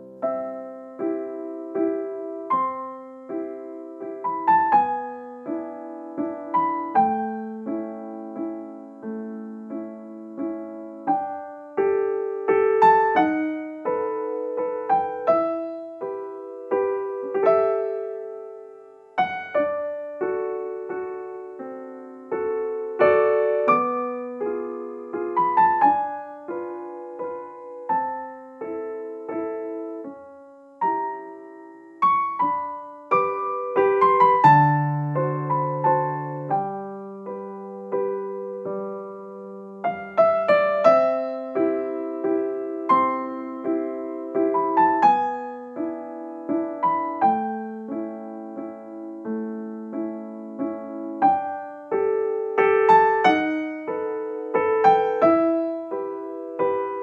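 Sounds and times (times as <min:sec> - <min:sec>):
slow piano music: 0:00.0 - 0:57.0.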